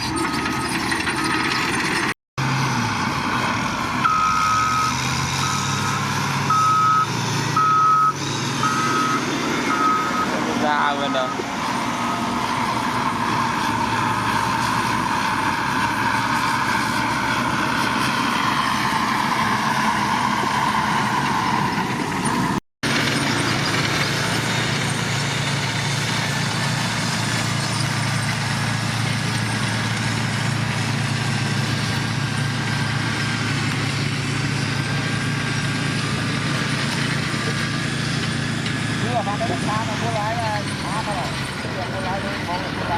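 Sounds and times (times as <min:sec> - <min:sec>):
heavy machinery engines running: 0:00.0 - 0:42.9.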